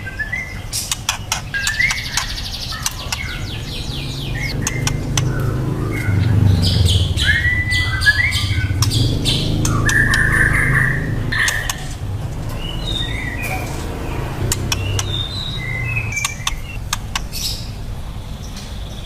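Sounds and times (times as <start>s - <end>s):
steady low hum: 0.0s - 18.5s
bird singing whistled notes and trills: 0.0s - 19.0s.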